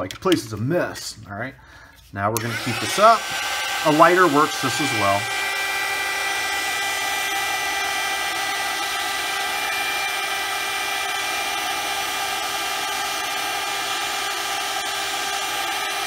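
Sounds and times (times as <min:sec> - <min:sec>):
heat gun fan whirring: 0:02.4 - 0:16.0.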